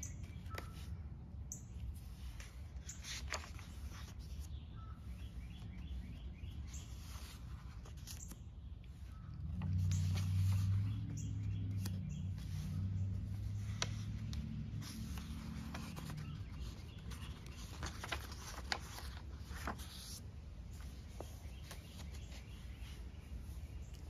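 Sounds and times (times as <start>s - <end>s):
birds singing: 0.0s - 24.0s
paper pages turning: 0.1s - 24.0s.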